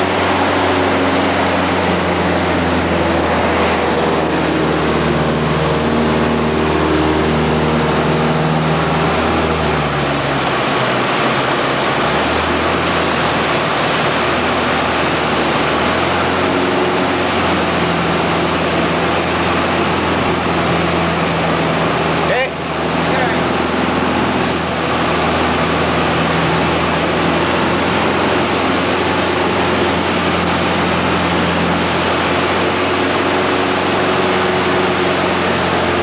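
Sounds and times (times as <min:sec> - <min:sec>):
airplane engine and propeller: 0:00.0 - 0:36.0
loud rush of air: 0:00.0 - 0:36.0.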